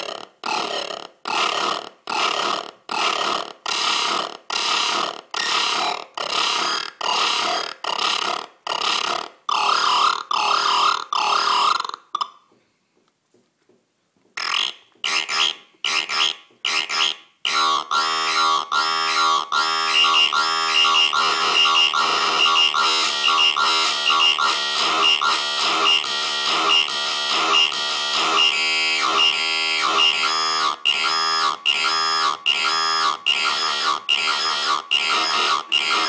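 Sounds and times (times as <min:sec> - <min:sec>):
looped electronic buzz: 0:01.5 - 0:11.8, 0:14.4 - 0:36.0.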